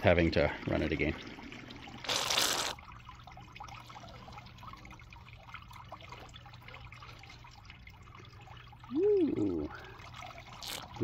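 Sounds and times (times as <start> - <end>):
water trickling and gurgling: 0.0 - 11.0.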